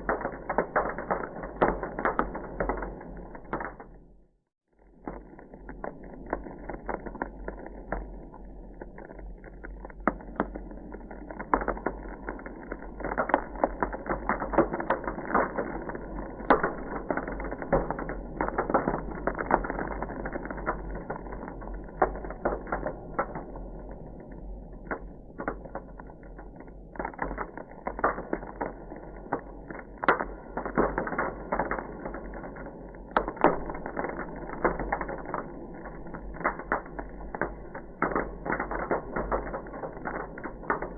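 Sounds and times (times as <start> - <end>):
ice crackling and popping: 0.0 - 40.9.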